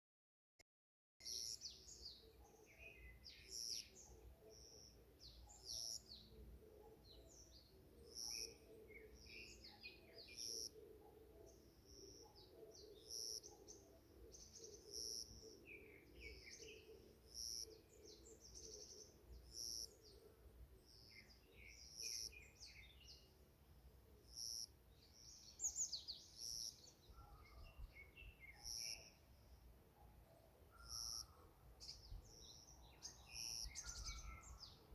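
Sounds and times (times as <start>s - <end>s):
birds chirping: 1.2s - 23.6s, 24.2s - 29.5s, 30.7s - 34.9s.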